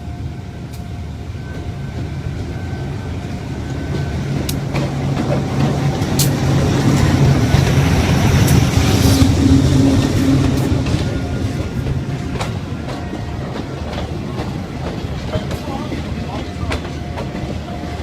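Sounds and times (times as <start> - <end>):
diesel locomotive engine running: 0.0 - 18.0.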